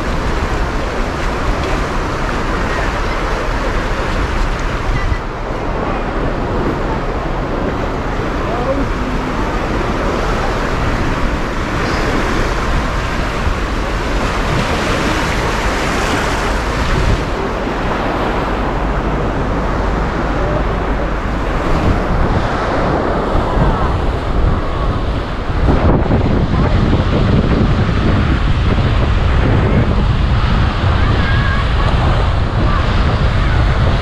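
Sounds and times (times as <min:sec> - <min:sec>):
small waves washing onto beach: 0:00.0 - 0:34.0
wind buffeting microphone: 0:00.0 - 0:34.0.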